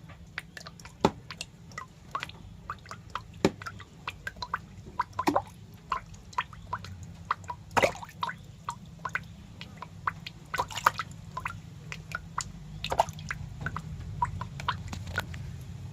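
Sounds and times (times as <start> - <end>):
wet clicks and drips: 0.0 - 15.8
low steady hum: 0.0 - 15.9.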